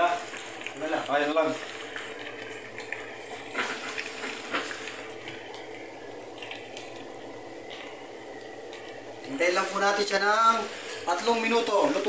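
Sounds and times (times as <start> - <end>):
pot simmering bubbling: 0.0 - 12.0.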